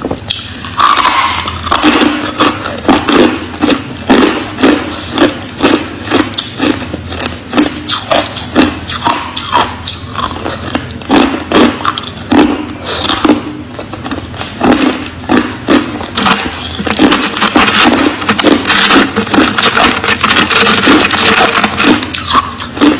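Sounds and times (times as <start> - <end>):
ice crunching between teeth: 0.3 - 22.9.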